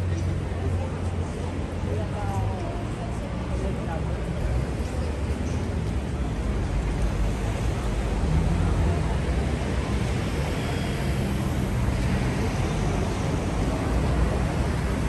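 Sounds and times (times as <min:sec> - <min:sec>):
low traffic rumble: 0:00.0 - 0:15.0
passers-by talking: 0:00.0 - 0:15.0.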